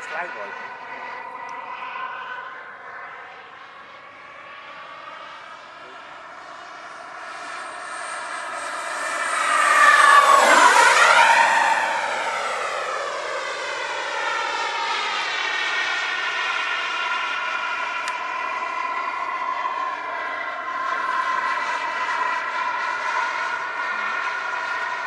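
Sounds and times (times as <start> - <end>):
model jet turbine whine: 0.0 - 25.0.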